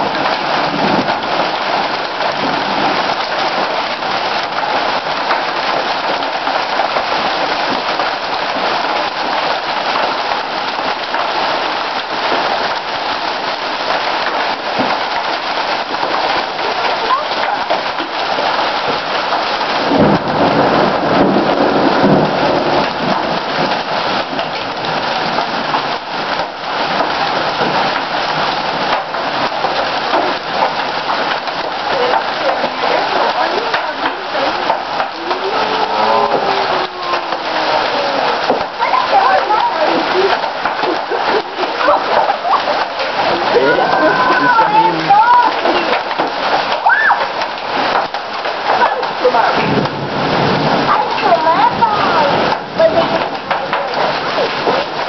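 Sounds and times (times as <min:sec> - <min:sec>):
hail and heavy rain pelting: 0:00.0 - 0:55.0.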